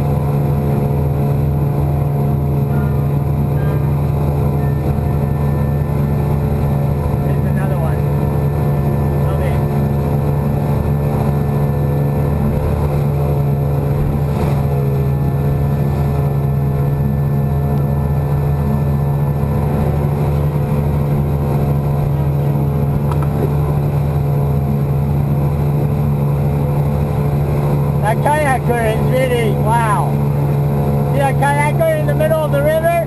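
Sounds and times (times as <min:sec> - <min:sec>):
outboard motor at full throttle: 0:00.0 - 0:33.0.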